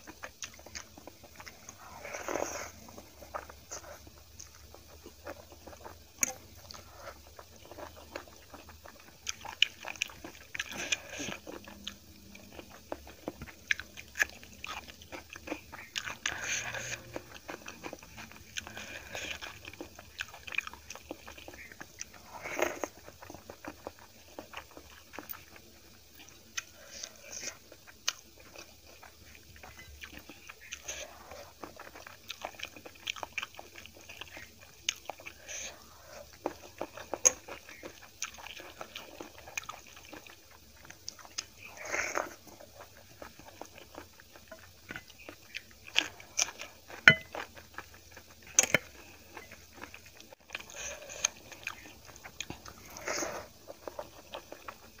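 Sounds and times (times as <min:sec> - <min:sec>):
wet chewing and crunching: 0:00.0 - 0:55.0.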